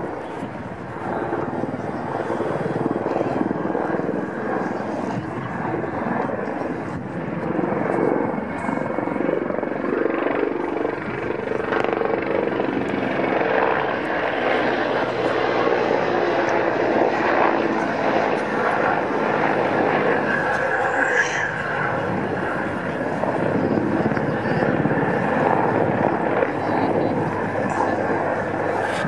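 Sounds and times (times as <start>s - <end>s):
helicopter flying past: 0.0s - 29.0s.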